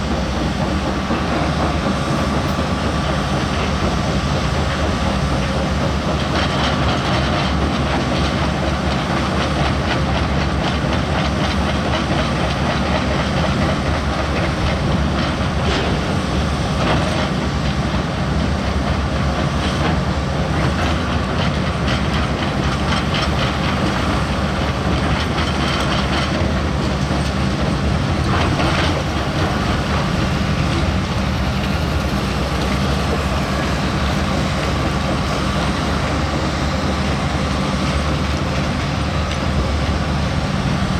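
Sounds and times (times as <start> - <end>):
heavy diesel machine engine: 0.0 - 40.9.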